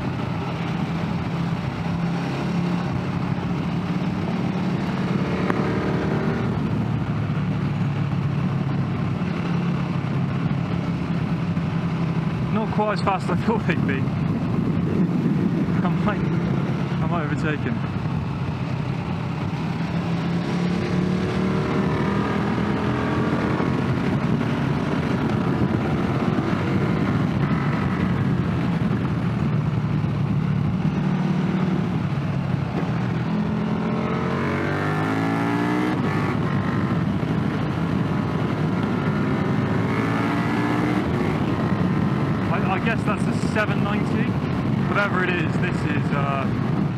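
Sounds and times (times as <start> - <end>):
motorcycle engine running: 0.0 - 46.9
wind rush: 0.0 - 46.9.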